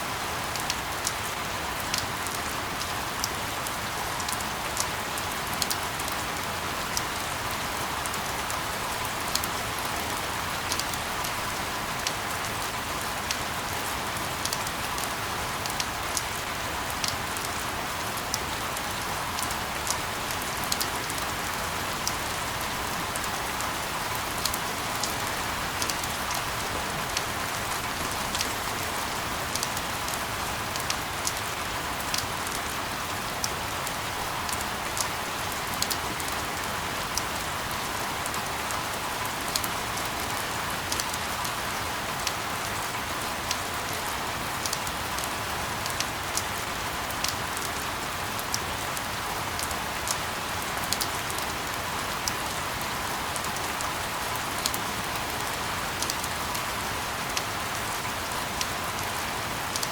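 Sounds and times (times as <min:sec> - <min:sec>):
raindrops ticking on a surface: 0:00.2 - 0:59.9.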